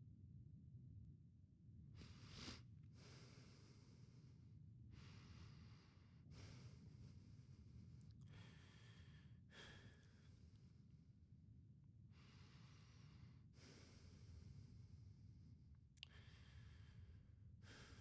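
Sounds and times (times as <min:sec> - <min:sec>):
soft breaths: 0:02.0 - 0:11.1, 0:12.1 - 0:18.0.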